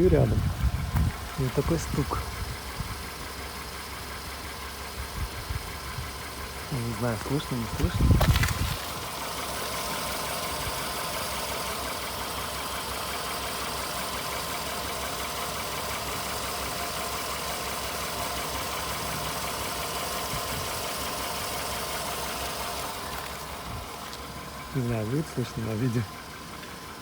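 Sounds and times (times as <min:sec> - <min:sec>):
car engine idling: 0:00.0 - 0:27.0
engine knock tapping: 0:00.0 - 0:27.0.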